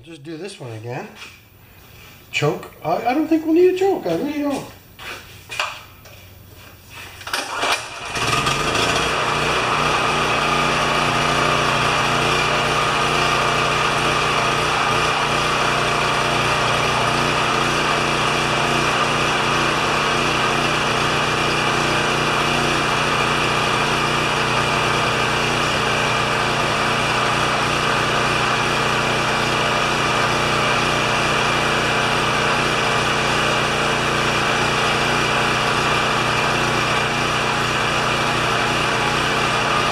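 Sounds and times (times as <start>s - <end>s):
generator engine pull start: 7.2s - 39.9s
generator engine running: 7.2s - 39.9s.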